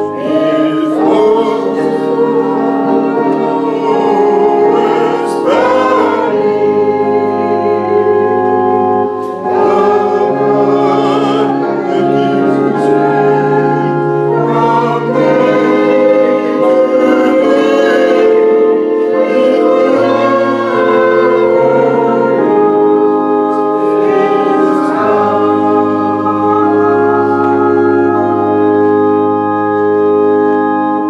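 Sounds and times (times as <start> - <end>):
choir singing a hymn: 0.0 - 31.0
instrumental accompaniment: 0.0 - 31.0.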